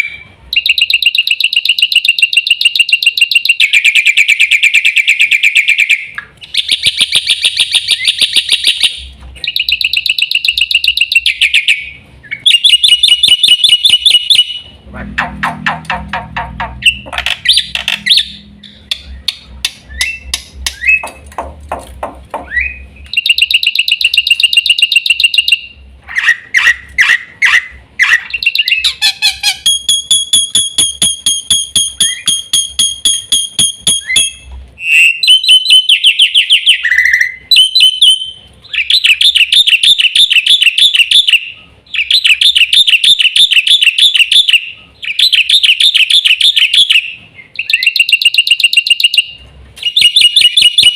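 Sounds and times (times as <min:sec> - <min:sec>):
bird singing trills and whistles: 0:00.0 - 0:21.2, 0:22.4 - 0:50.9.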